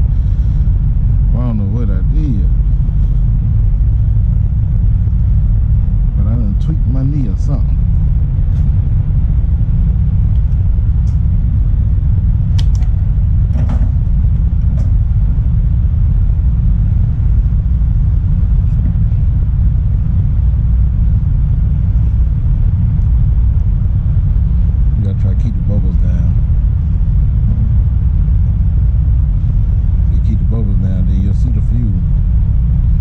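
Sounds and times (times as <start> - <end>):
road noise inside cab: 0.0 - 33.0
truck engine rumble: 0.0 - 33.0.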